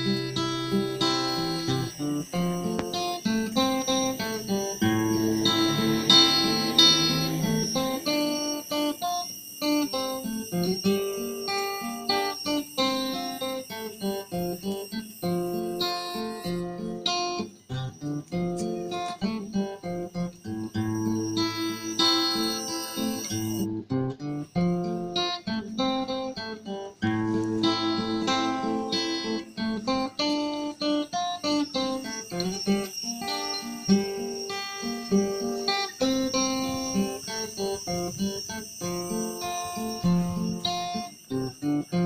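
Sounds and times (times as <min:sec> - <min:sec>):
plucked acoustic guitar: 0:00.0 - 0:09.1, 0:10.1 - 0:42.0.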